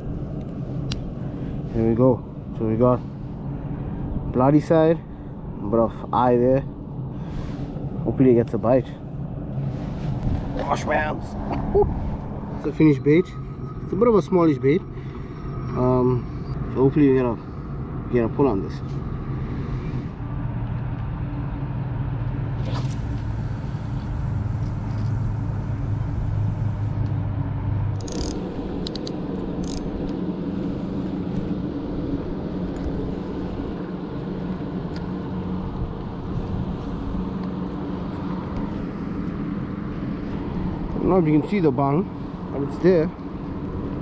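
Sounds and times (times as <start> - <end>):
low engine drone: 0.0 - 44.0.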